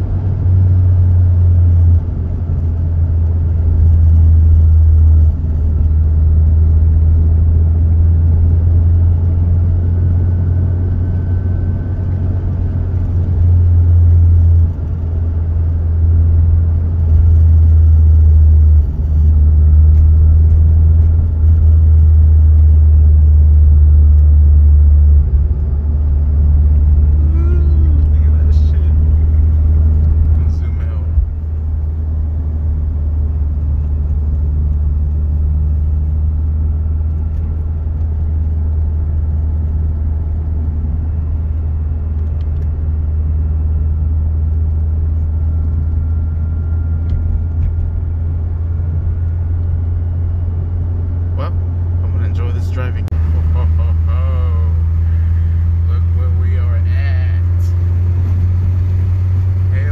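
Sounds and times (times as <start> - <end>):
car engine and tyres droning: 0.0 - 59.9.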